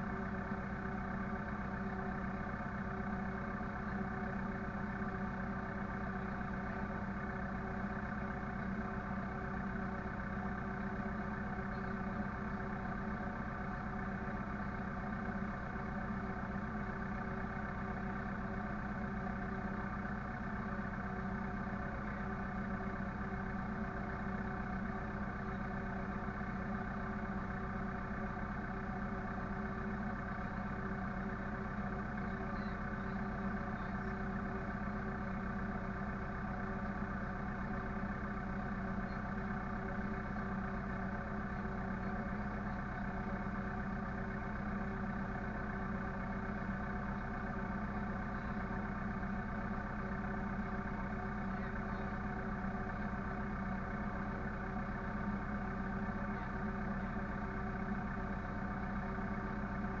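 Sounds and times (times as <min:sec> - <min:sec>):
engine running steadily: 0:00.0 - 1:00.0.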